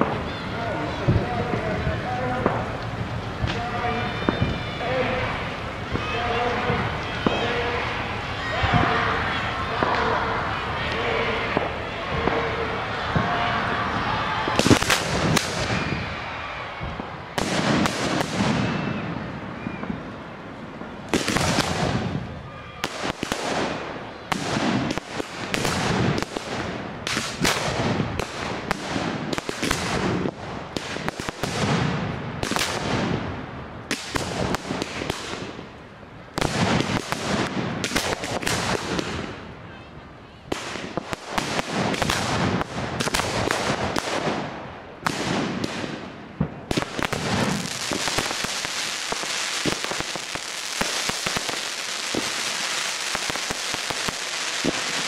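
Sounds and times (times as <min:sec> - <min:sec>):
fireworks bursts and bangs: 0:00.0 - 0:39.6, 0:40.5 - 0:55.0
fireworks crackle: 0:00.0 - 0:39.6, 0:40.4 - 0:55.0.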